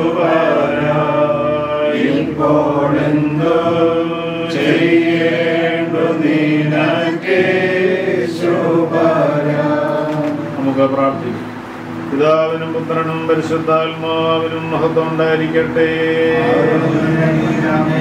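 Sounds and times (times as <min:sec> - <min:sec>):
group chanting a hymn: 0:00.0 - 0:10.8, 0:12.1 - 0:18.0.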